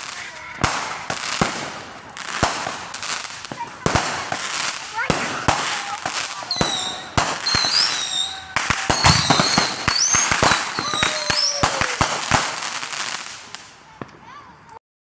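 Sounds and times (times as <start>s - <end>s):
firework whistles: 0.0s - 14.8s
fireworks bangs and crackles: 0.0s - 14.8s.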